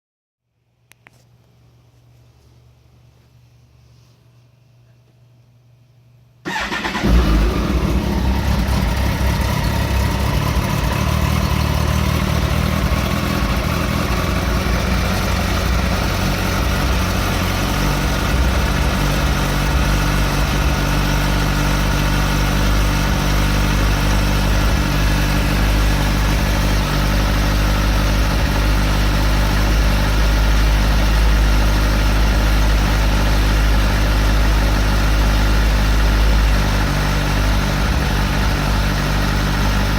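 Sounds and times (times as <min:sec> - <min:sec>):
motorcycle engine starting and idling: 0:06.5 - 0:39.9.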